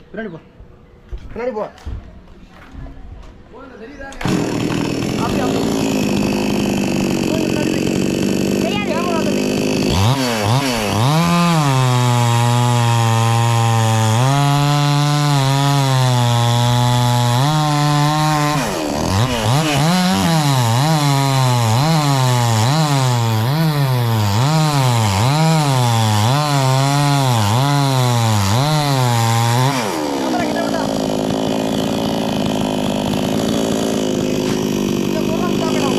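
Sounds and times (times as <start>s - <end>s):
chainsaw cutting wood: 4.1s - 35.9s.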